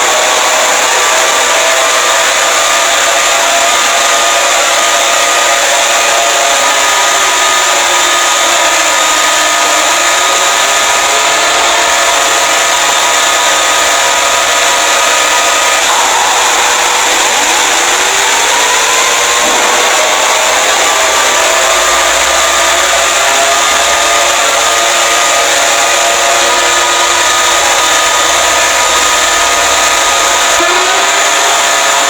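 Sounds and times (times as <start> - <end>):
harsh alarm noise: 0.0 - 32.0
steady held tones: 0.0 - 32.0.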